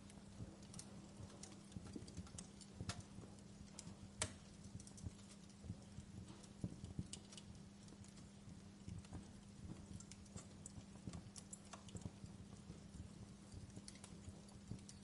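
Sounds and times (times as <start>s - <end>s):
steady low hum: 0.0s - 15.0s
wood fire crackling: 0.0s - 15.0s.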